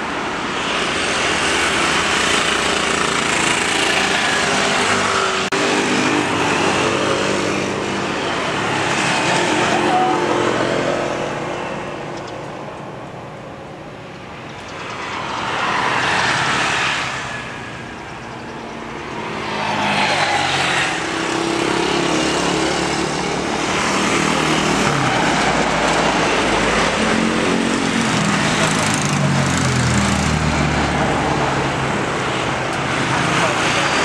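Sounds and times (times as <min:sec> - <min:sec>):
jet engines landing: 0:00.0 - 0:34.0.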